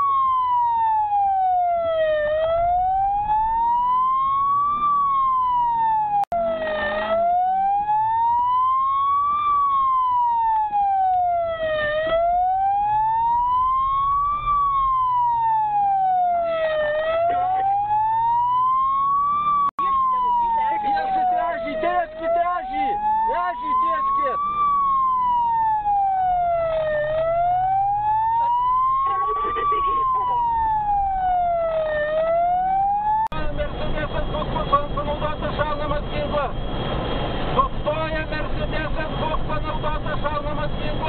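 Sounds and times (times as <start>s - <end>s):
car engine and road noise: 0.0s - 41.0s
police siren wailing: 0.0s - 41.0s.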